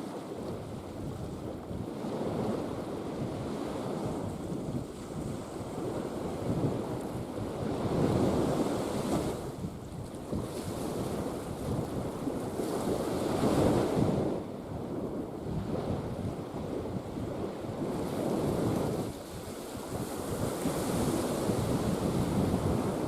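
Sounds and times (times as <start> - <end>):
sea waves washing: 0.0 - 14.4, 16.9 - 23.0
wind buffeting microphone: 0.0 - 23.0.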